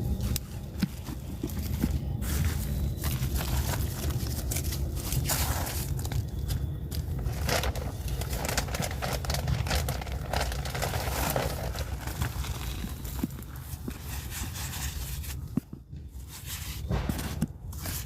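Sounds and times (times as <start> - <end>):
hands crunching and scraping soil: 0.0 - 18.0
steady low rumble: 0.0 - 18.0.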